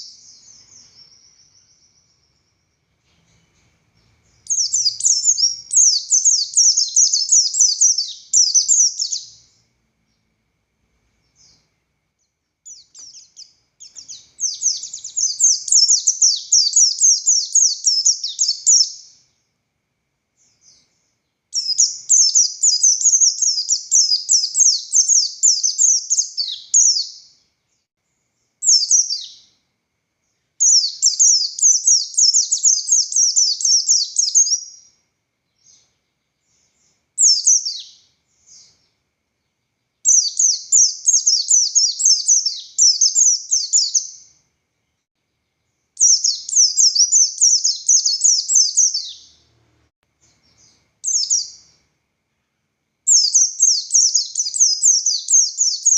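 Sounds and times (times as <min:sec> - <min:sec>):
bird rapid twittering song: 0:00.0 - 0:10.3, 0:11.2 - 0:19.4, 0:20.4 - 0:29.6, 0:30.3 - 0:44.4, 0:45.5 - 0:49.6, 0:50.2 - 0:51.8, 0:53.1 - 0:55.9.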